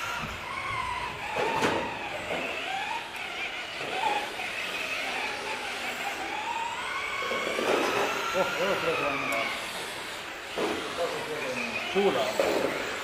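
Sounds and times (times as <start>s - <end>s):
rc car motor whining: 0.0s - 13.0s.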